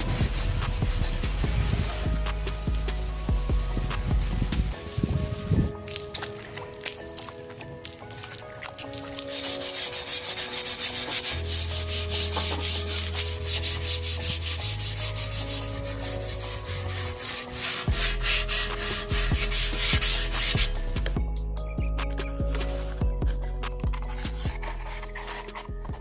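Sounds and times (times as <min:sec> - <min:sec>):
sandpaper rubbing on metal frame: 0:00.0 - 0:05.9, 0:08.8 - 0:20.8, 0:22.5 - 0:26.0.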